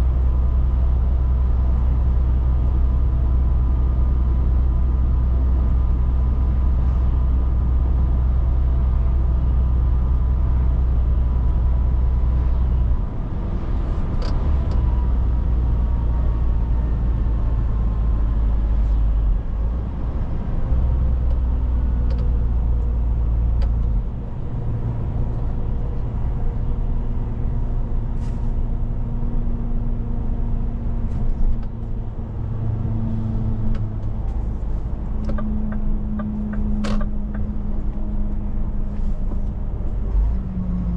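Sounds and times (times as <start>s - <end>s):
truck engine drone: 0.0s - 40.9s.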